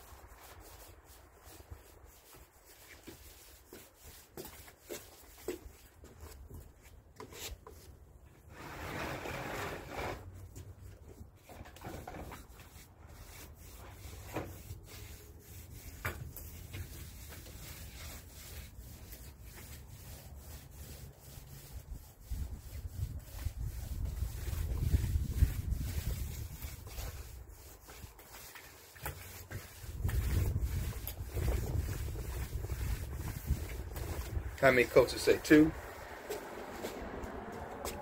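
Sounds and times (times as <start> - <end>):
paint roller rubbing on wood: 0.0 - 38.0.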